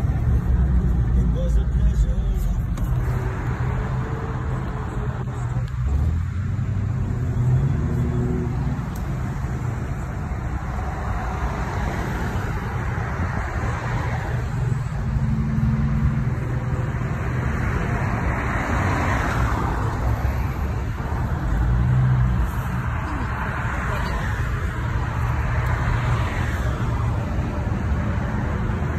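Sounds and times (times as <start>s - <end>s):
car engine hum: 0.0s - 28.9s.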